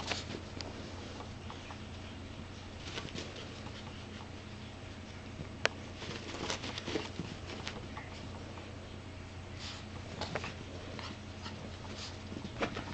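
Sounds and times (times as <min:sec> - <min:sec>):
dog paws scrabbling and pattering: 0:00.0 - 0:08.5, 0:09.8 - 0:12.9.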